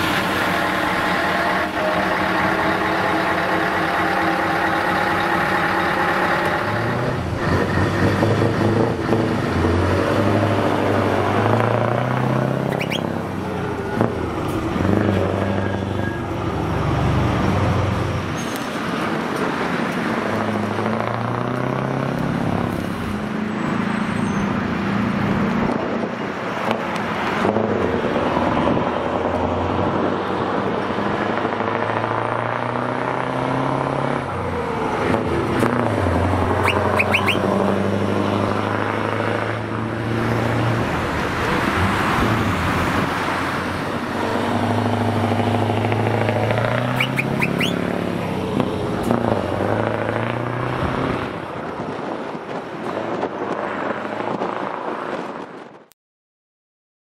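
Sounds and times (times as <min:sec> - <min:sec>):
diesel truck engine shifting gears: 0:00.0 - 0:54.5.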